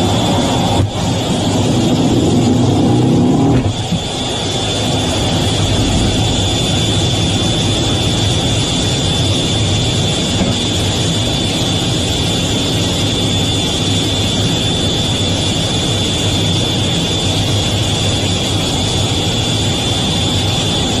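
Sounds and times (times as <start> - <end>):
jet engines rumbling and whining: 0.0 - 21.0.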